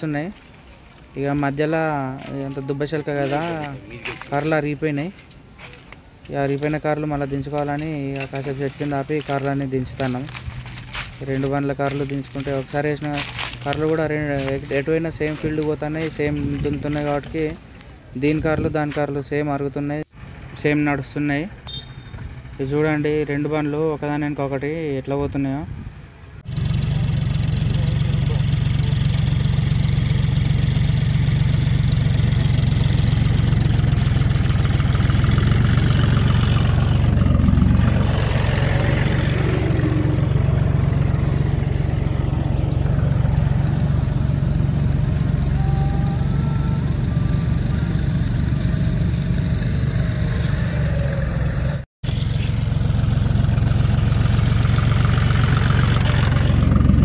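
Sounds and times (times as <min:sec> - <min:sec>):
tractor diesel engine running: 0:00.0 - 0:25.3, 0:25.9 - 0:57.0.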